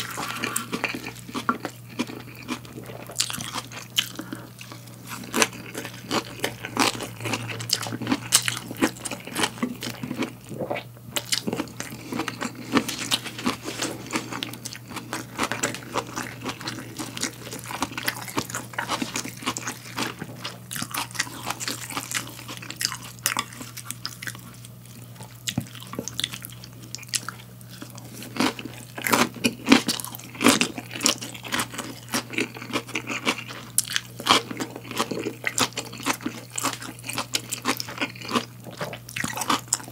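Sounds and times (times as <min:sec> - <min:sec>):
low steady hum: 0:00.0 - 0:39.9
wet crunching bites of salad: 0:00.0 - 0:39.9.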